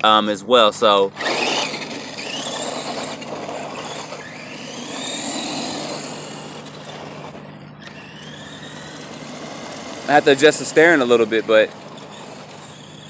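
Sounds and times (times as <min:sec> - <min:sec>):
electric motor whining: 0:01.2 - 0:13.0.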